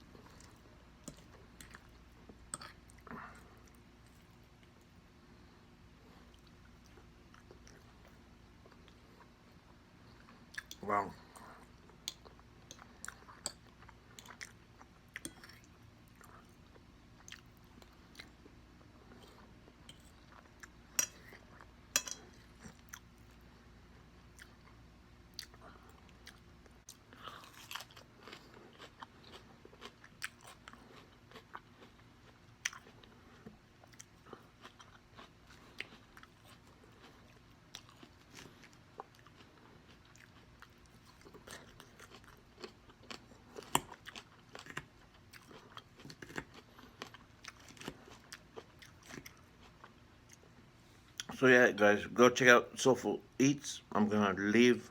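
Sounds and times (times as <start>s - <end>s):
person chewing food: 0.0s - 51.4s.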